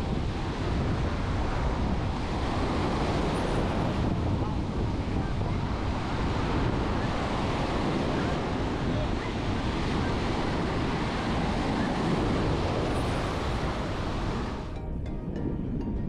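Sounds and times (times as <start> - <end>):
ocean surf washing on beach: 0.0 - 14.7
wind on microphone: 0.0 - 16.0.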